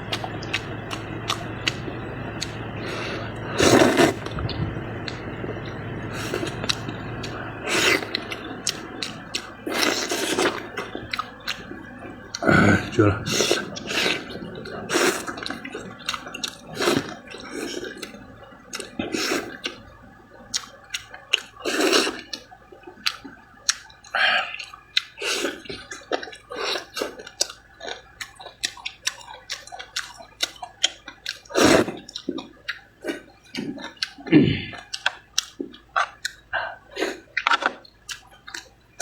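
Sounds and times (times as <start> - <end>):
person slurping and chewing noodles: 0.0 - 19.8, 20.4 - 38.7.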